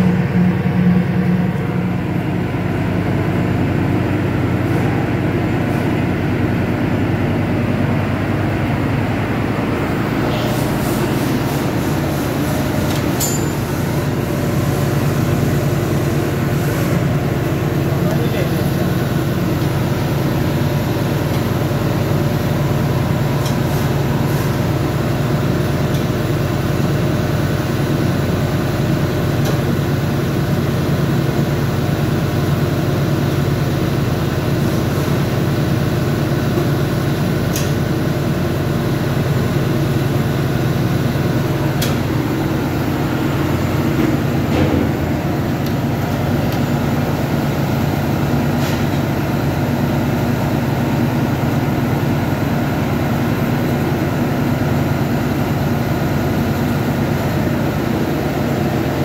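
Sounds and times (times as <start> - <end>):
engine room machinery drone: 0.0 - 59.0.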